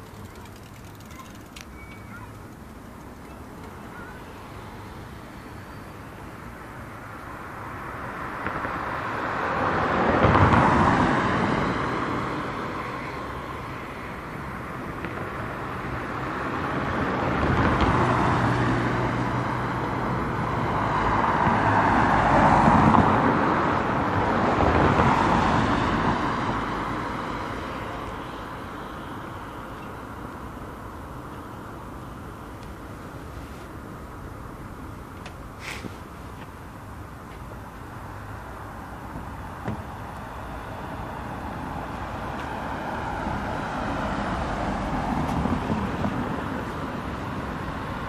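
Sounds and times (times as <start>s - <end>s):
cars passing close by: 0.0s - 48.0s.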